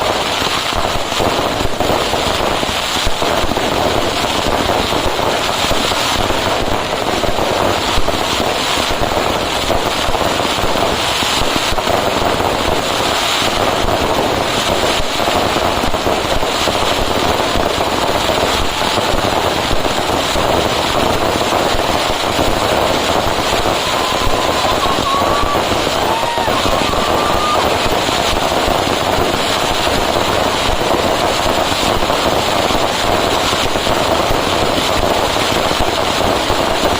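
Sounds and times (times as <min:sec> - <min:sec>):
firecrackers crackling: 0:00.0 - 0:36.9.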